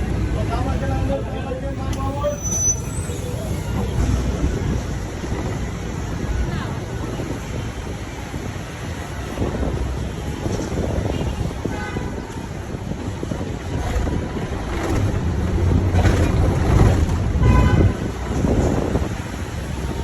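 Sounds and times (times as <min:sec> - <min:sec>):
vehicle engine and road rumble: 0:00.0 - 0:20.0
wind buffeting microphone: 0:03.6 - 0:20.0.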